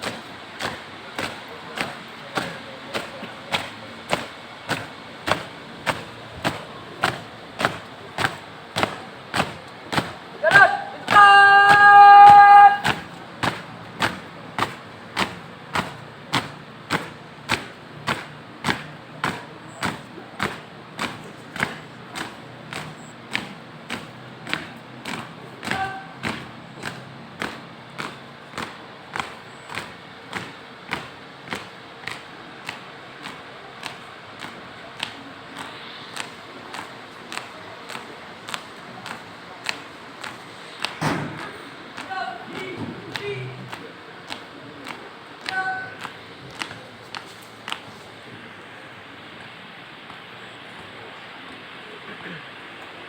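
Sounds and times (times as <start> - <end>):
boots marching in unison: 0.0 - 51.0.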